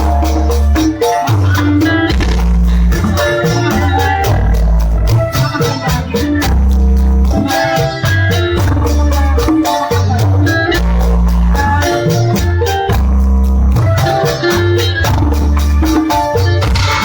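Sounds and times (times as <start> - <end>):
heavy bass notes: 0.0 - 17.0
live band music: 0.0 - 17.0
steady drum rhythm: 0.0 - 17.0.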